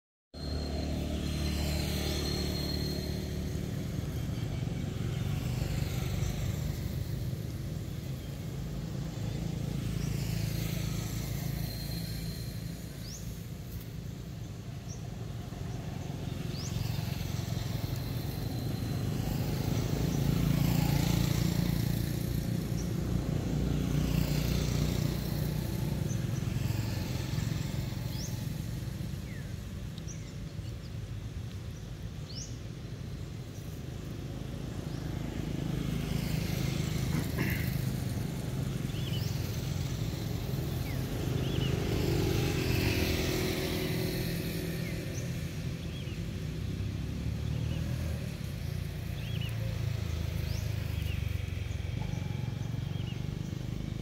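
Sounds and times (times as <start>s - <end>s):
vehicle engines passing: 0.4s - 54.0s.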